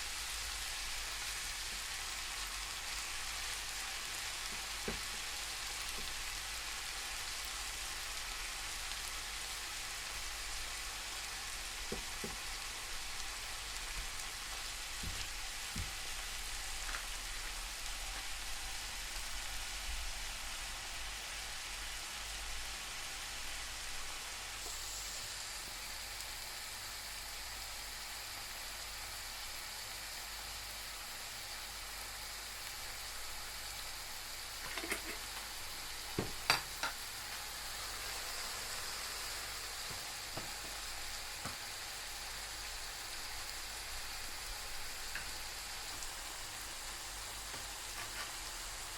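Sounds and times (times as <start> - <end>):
meat sizzling in a pan: 0.0 - 48.9.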